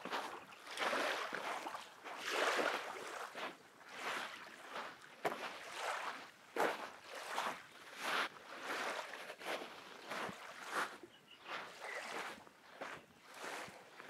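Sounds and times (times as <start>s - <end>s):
waves lapping on sand shore: 0.0s - 14.0s.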